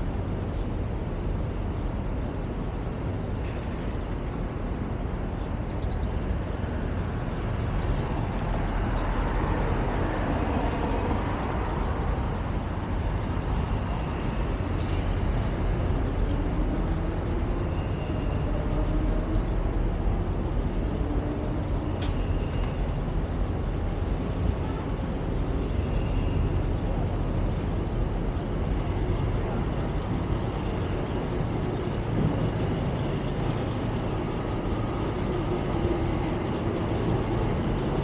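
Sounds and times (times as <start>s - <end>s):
traffic rumble: 0.0s - 38.0s.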